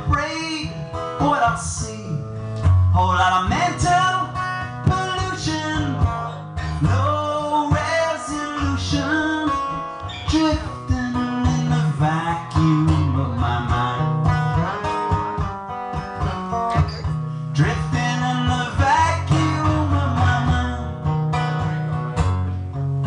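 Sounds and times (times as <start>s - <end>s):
man singing: 0.0s - 15.2s, 16.7s - 21.8s
acoustic guitar strumming: 0.0s - 23.0s.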